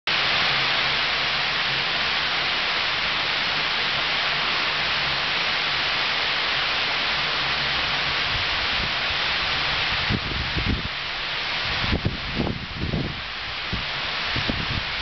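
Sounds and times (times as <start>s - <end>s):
water rushing over spillway: 0.1s - 15.0s.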